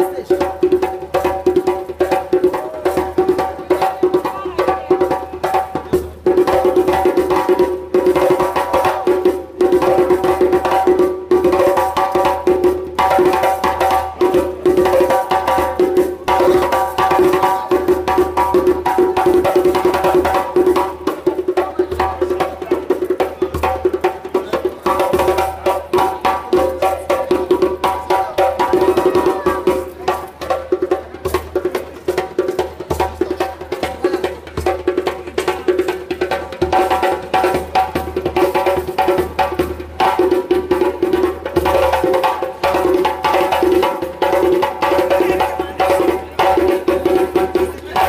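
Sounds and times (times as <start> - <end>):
drums: 0.0 - 48.0.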